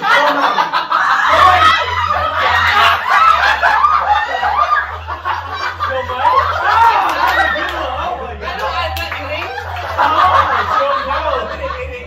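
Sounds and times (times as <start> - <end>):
group of people laughing: 0.0 - 12.0.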